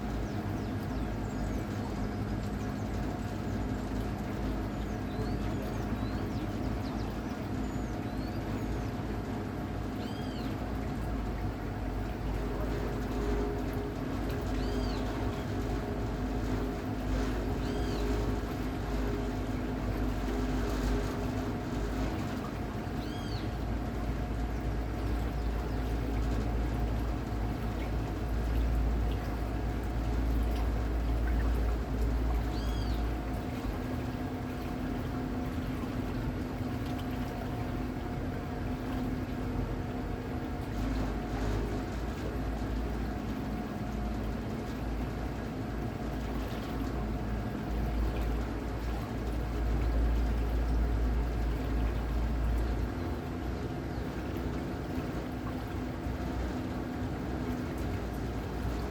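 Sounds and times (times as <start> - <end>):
faint steady hum: 0.0 - 58.9
water splashing along boat hull: 0.0 - 58.9.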